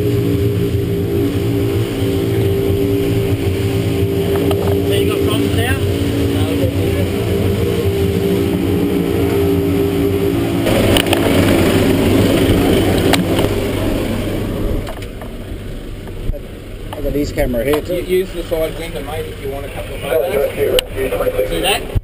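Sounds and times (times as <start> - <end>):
boat engines droning: 0.0 - 22.0
rush of wind and water: 0.0 - 22.0.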